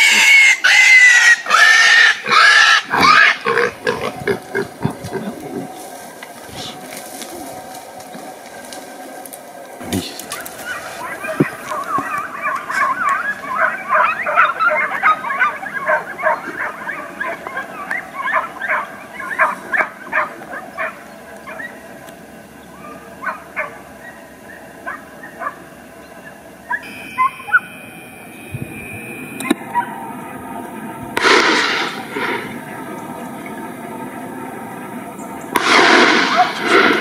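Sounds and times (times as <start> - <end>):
hunting dogs baying and yelping: 0.0 - 37.0.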